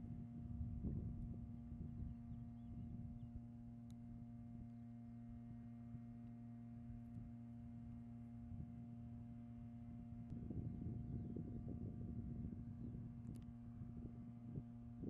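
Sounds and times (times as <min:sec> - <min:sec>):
faint steady hum: 0:00.0 - 0:15.0
low rumble of wind: 0:00.0 - 0:15.0.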